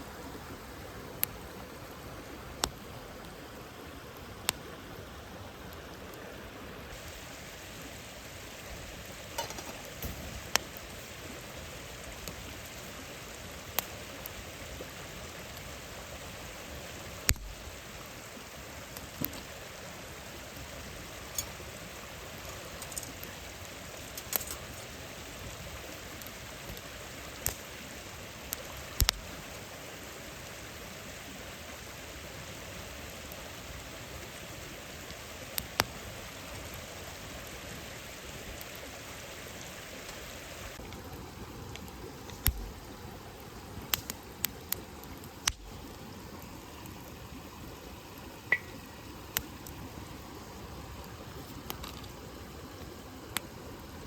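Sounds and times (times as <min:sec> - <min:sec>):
campfire hissing: 0:00.0 - 0:54.0
fire crackles and pops: 0:06.9 - 0:54.0.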